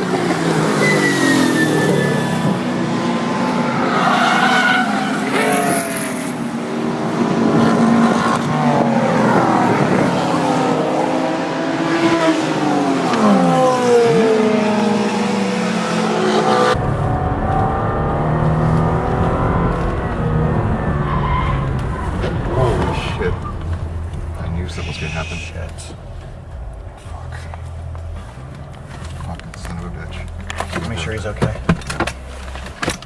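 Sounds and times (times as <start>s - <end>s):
high-revving car engines: 0.0s - 33.0s.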